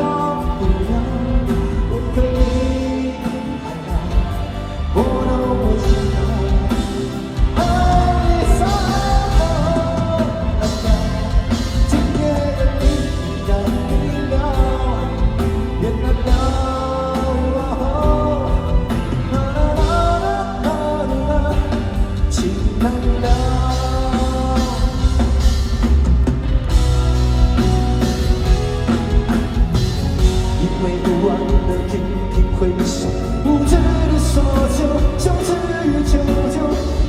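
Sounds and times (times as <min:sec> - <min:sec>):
bass guitar: 0:00.0 - 0:37.0
drum kit: 0:00.0 - 0:37.0
melodic lead line: 0:00.0 - 0:37.0.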